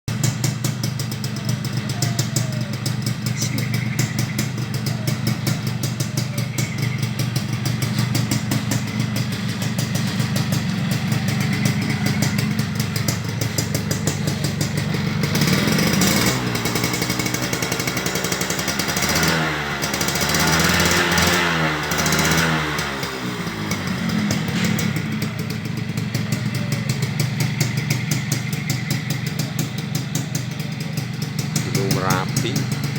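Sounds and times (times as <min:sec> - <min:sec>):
motorcycle engine idling and revving: 0:00.1 - 0:32.9.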